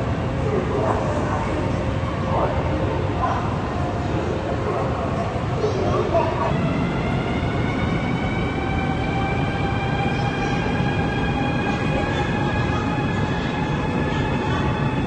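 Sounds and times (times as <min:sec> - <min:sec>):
electric train rumble and whine: 0:00.0 - 0:15.0.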